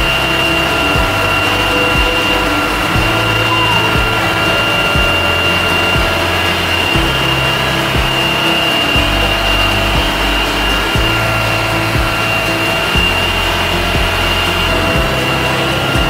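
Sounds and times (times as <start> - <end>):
background music with bass line: 0.0 - 16.0
constant hiss: 0.0 - 16.0.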